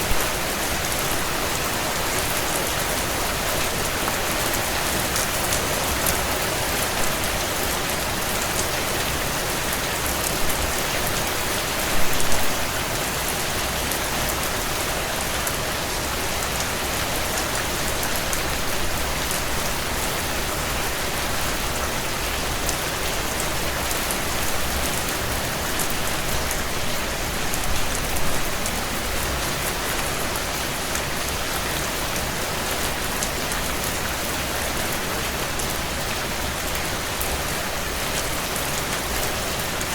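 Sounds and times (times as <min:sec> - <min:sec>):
heavy rain on window panes: 0:00.0 - 0:39.9.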